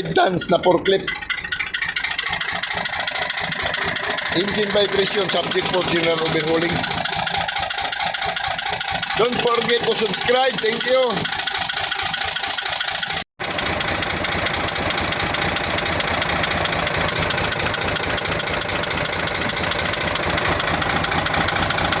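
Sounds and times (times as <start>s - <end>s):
diesel engine idling: 0.0s - 11.3s, 13.4s - 22.0s.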